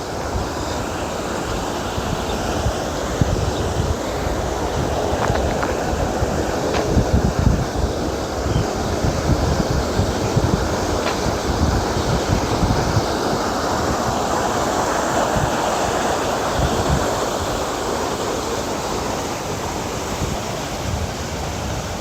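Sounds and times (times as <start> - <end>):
garden waterfall rushing: 0.0 - 22.0
wind buffeting microphone: 0.0 - 22.0.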